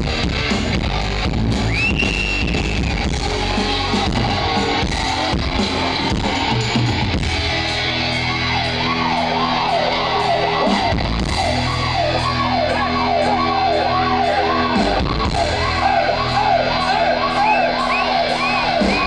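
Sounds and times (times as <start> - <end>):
heavy metal band playing: 0.0 - 19.0
high wavering guitar line: 0.0 - 19.0.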